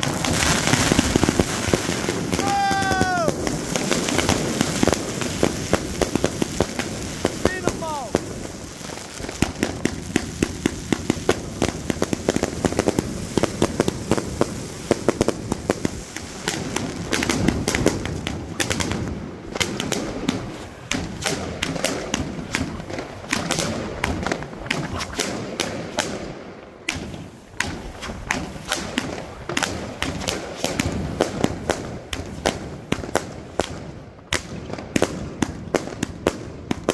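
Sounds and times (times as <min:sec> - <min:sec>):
fireworks popping and crackling: 0:00.0 - 0:36.9
heavy firework thuds: 0:00.0 - 0:36.9.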